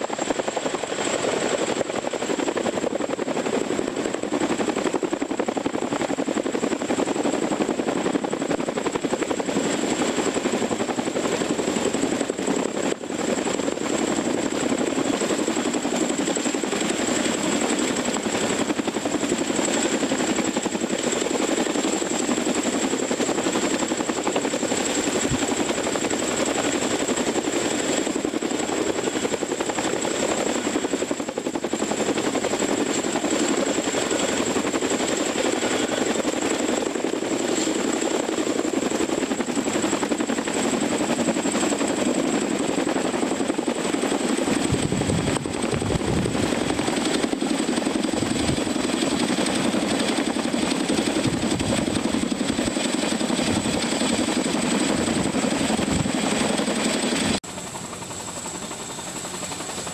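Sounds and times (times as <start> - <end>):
helicopter rotor and turbine noise: 0.0 - 59.9.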